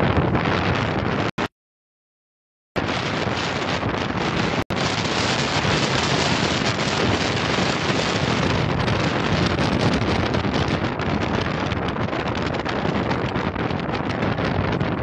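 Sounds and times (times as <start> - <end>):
wind rushing over microphone: 0.0 - 1.5, 2.8 - 15.0.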